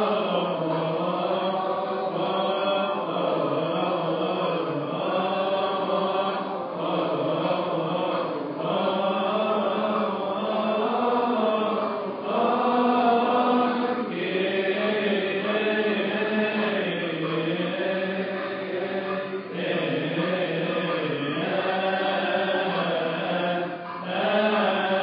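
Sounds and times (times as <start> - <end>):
congregation chanting a hymn: 0.0 - 25.0.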